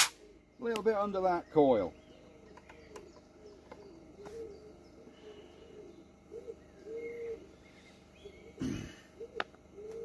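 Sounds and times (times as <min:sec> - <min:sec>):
faint low bird calls: 0:00.0 - 0:10.0.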